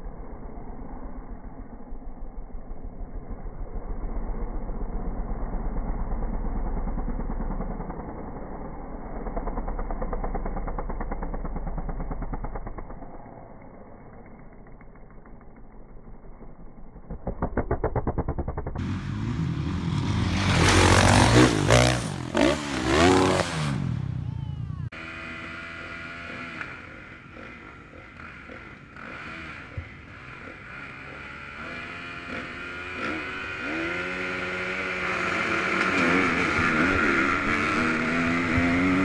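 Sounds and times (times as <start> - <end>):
dirt bike engines revving: 4.0 - 39.0.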